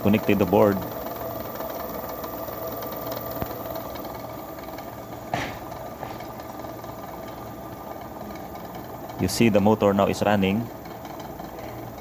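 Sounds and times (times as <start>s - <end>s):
treadmill motor hum: 0.0s - 12.0s.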